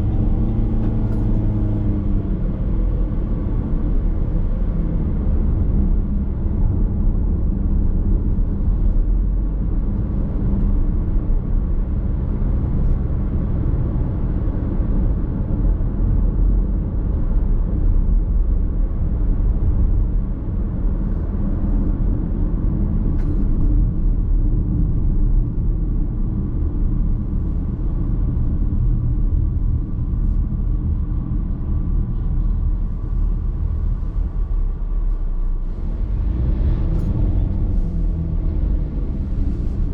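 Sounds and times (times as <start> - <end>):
car interior road noise: 0.0 - 39.9.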